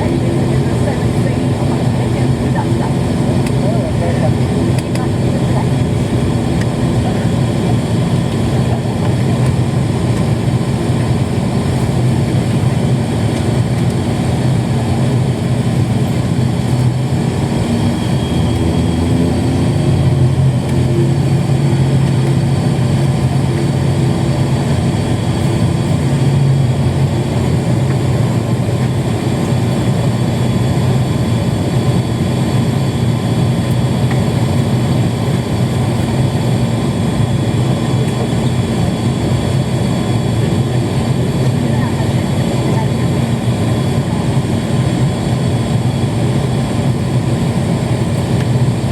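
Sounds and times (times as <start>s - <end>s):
turboprop engines droning in cabin: 0.0s - 48.9s.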